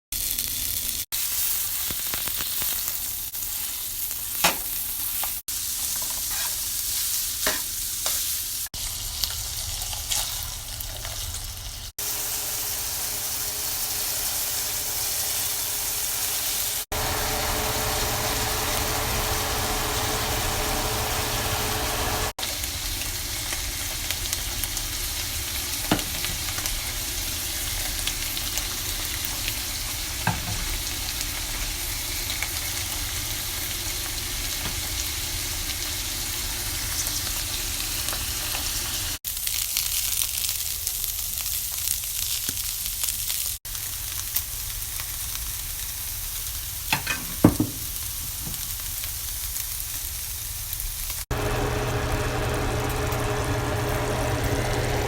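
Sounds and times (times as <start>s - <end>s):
food sizzling in a pan: 0.2s - 55.0s.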